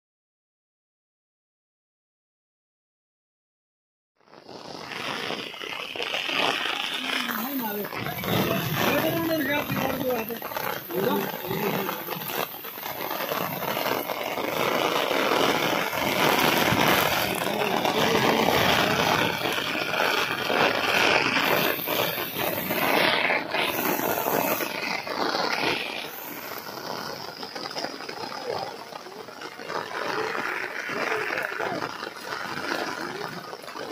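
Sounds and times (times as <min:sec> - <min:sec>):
heavy rain falling: 0:04.5 - 0:33.9.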